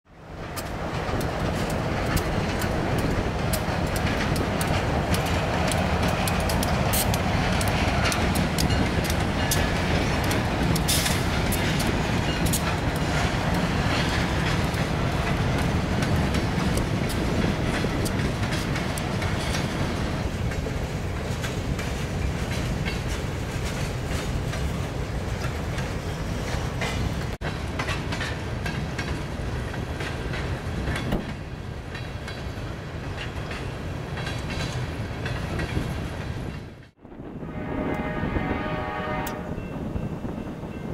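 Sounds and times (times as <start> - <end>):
diesel locomotive engines rumbling: 0.1 - 40.9
train wheels clacking over rail joints: 0.3 - 37.0.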